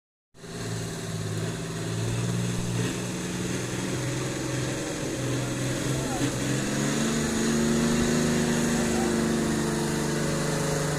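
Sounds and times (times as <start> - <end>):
diesel boat engine droning: 0.4 - 10.9.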